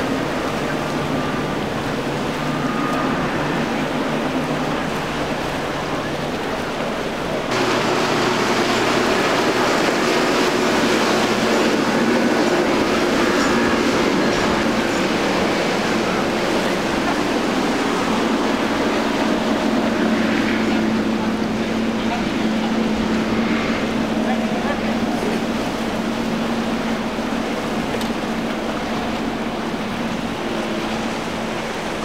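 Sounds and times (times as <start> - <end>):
outboard motor engine hum: 0.0 - 32.0
rush of spray and wake: 0.0 - 32.0.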